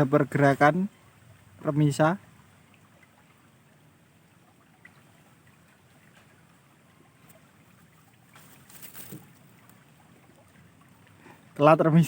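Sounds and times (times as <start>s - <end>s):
faint hiss of flowing river: 0.0s - 12.0s.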